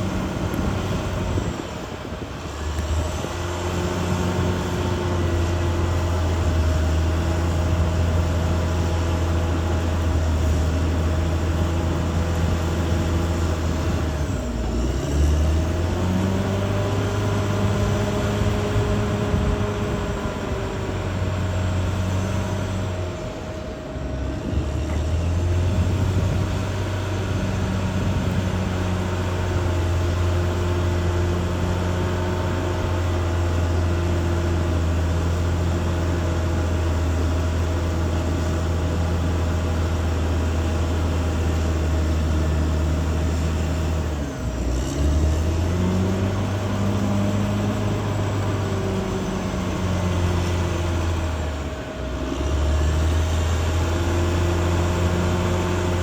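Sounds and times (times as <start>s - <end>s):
bulldozer diesel engine: 0.0s - 56.0s
steady whine: 0.0s - 56.0s.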